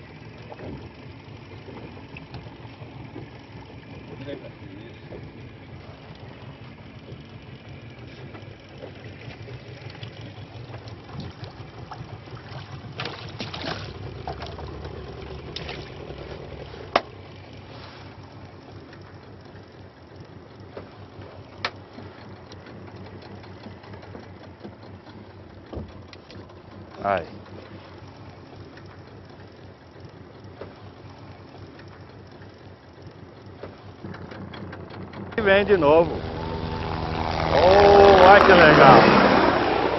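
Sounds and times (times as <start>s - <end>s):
outboard motor running: 0.0s - 39.9s
water noise: 0.0s - 39.9s.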